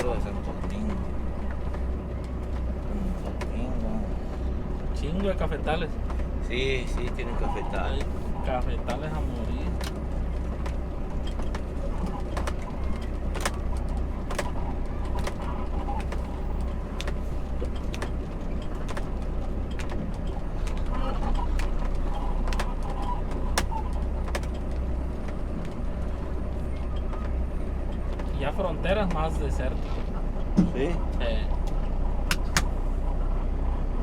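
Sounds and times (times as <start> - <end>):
sharp clicks and rattles: 0.0 - 32.8
truck engine droning: 0.0 - 34.0.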